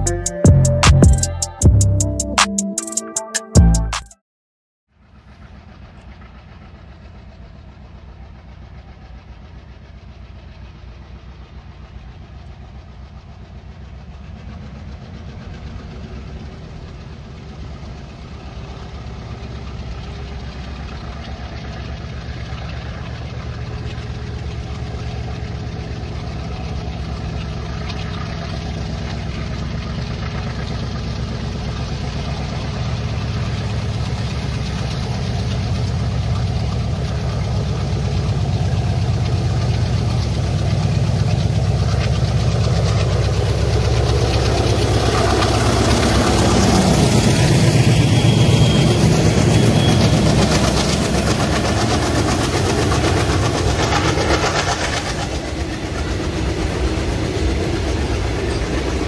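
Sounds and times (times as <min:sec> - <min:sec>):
diesel locomotive engines: 0:05.0 - 0:59.0.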